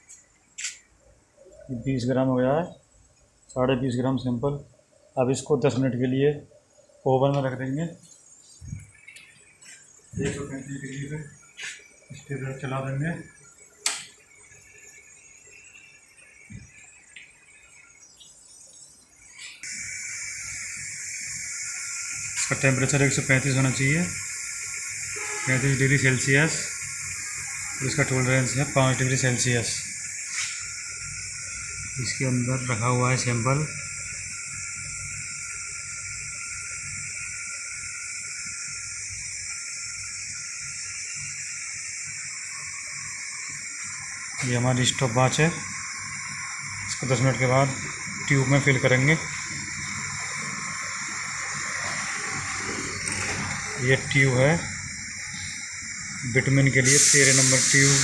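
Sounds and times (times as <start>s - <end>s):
low unsteady hum of equipment: 0.0s - 58.0s
steady hiss: 0.0s - 58.0s
motor whine: 6.1s - 58.0s.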